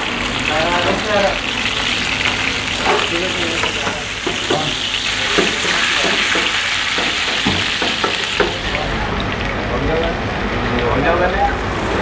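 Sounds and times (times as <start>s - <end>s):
dumplings sizzling in a frying pan: 0.0s - 10.1s.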